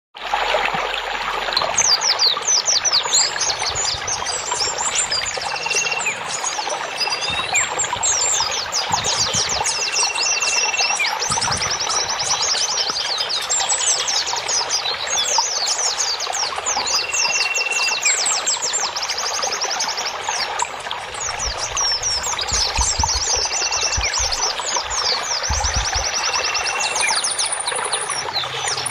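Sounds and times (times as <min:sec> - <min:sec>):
water trickling: 0:00.2 - 0:28.9
small birds chirping: 0:01.6 - 0:28.9.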